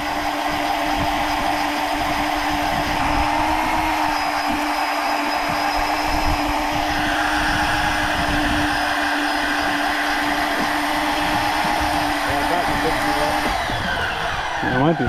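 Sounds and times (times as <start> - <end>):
electric fishing reel motor whining: 0.0 - 15.0
wind buffeting microphone: 0.5 - 4.8, 5.4 - 15.0.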